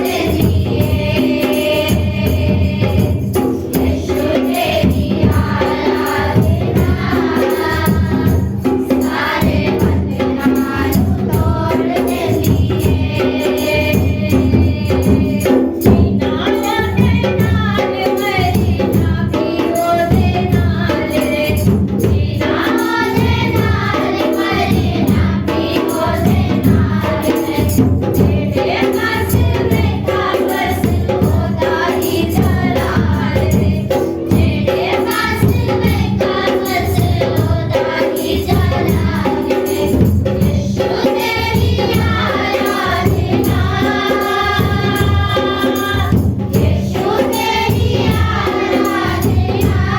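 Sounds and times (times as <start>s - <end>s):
group singing worship song: 0.0s - 49.9s
tambourine: 0.0s - 49.9s.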